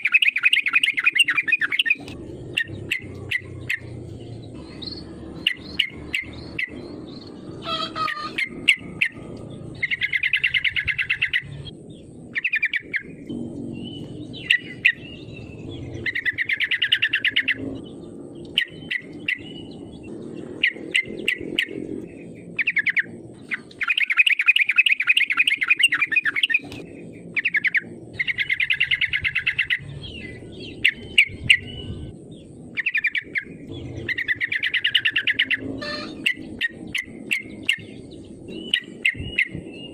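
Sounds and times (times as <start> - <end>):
bird singing rapid chattering notes: 0.0 - 39.9.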